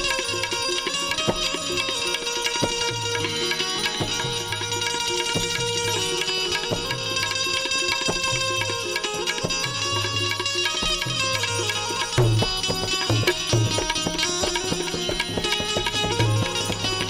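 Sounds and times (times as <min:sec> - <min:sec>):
tabla rhythm: 0:00.0 - 0:17.0.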